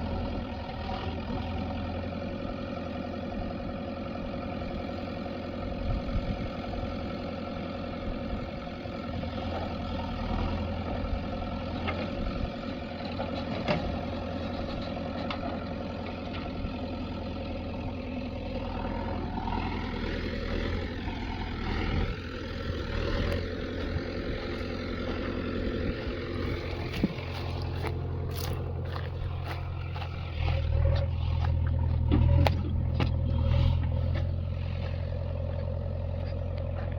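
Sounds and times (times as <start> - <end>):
diesel engines running: 0.0 - 36.9.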